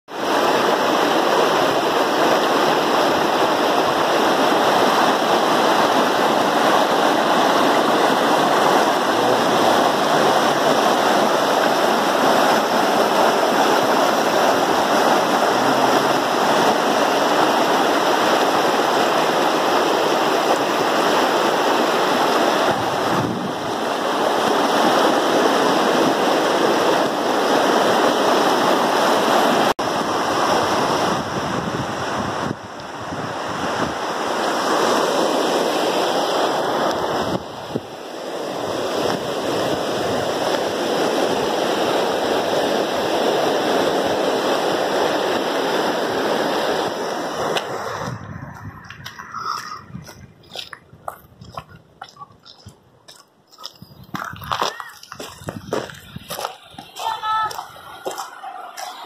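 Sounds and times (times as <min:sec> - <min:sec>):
river water rushing: 0:00.1 - 0:59.0.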